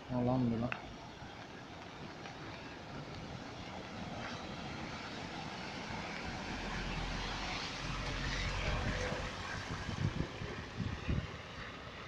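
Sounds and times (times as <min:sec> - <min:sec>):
water running over street: 0:00.0 - 0:12.0
steady rain: 0:00.1 - 0:12.0.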